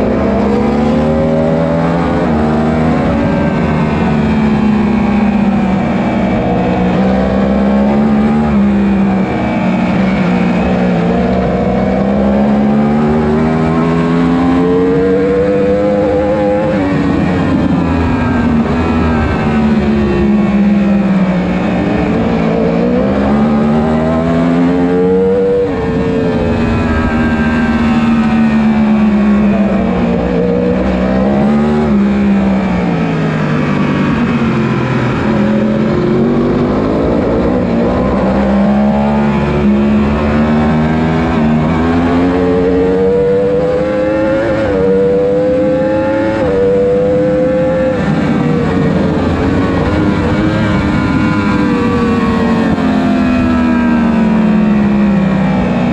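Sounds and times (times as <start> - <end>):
racing motorcycle engines revving: 0.0 - 55.9.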